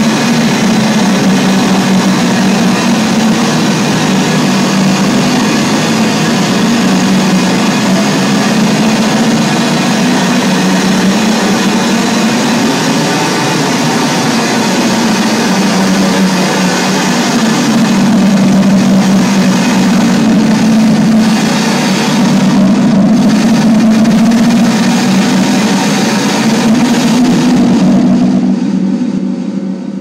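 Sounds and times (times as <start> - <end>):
dense electronic noise: 0.0 - 30.0
low electronic drone: 0.0 - 30.0.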